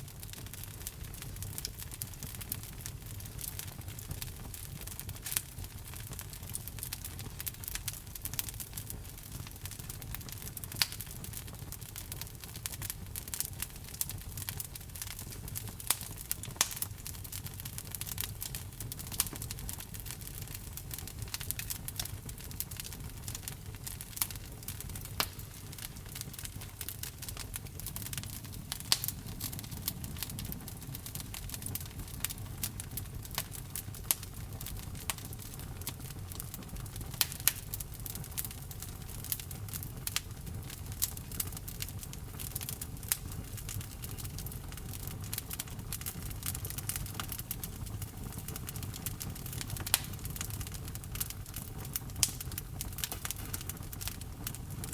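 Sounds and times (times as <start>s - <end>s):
fire crackling and popping: 0.0s - 54.9s
fire low rumble: 0.0s - 54.9s.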